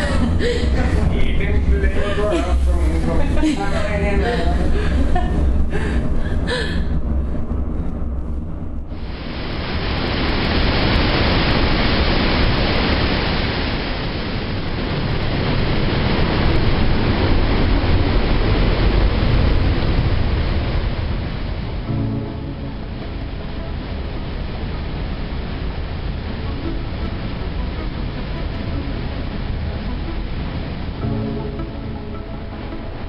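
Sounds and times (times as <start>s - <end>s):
waterfall rushing into rock pool: 0.0s - 3.1s, 8.9s - 33.0s
low rumble: 0.0s - 33.0s.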